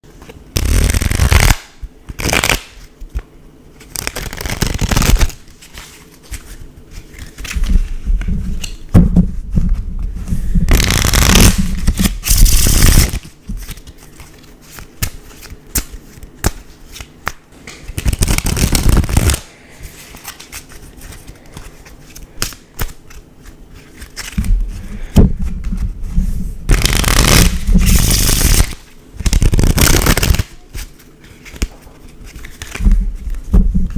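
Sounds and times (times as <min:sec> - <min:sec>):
playing cards shuffling: 0:00.2 - 0:08.9, 0:10.7 - 0:33.9.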